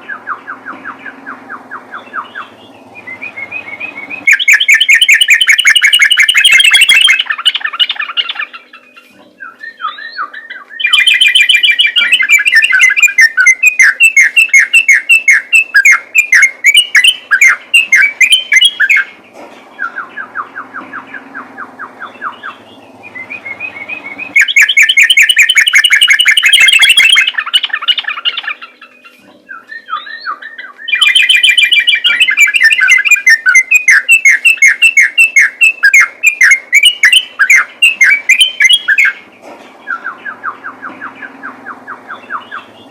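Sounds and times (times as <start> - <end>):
bulbul singing rapid notes: 0.0 - 19.2, 19.8 - 42.9
quiet even bird trill: 0.0 - 42.9.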